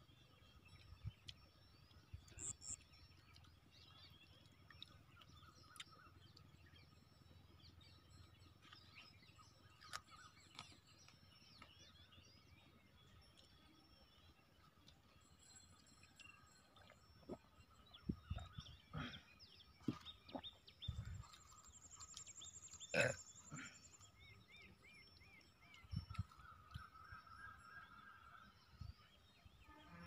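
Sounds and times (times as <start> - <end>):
distant birds chirping: 0.3 - 30.0.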